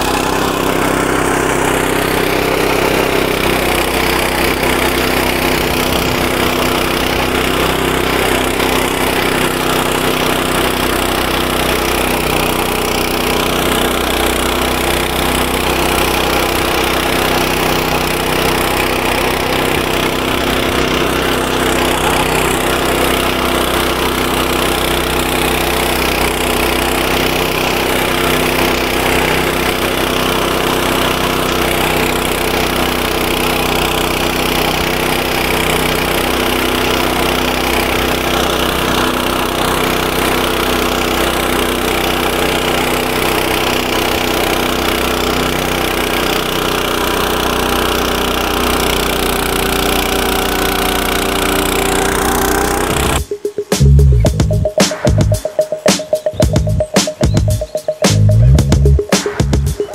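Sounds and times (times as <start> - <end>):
tractor engine running under load: 0.0 - 55.4, 56.4 - 59.9.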